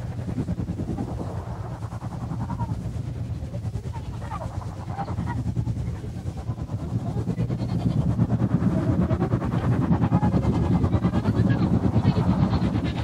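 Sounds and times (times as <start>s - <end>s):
low rumbling with crackling flutter: 0.0s - 13.0s.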